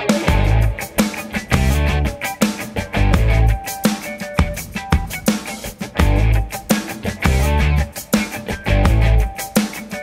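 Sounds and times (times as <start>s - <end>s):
heavy bass notes: 0.0s - 3.6s, 4.4s - 9.4s
guitar: 0.0s - 10.0s
rock music: 0.0s - 10.0s
steady drum beat: 0.0s - 10.0s.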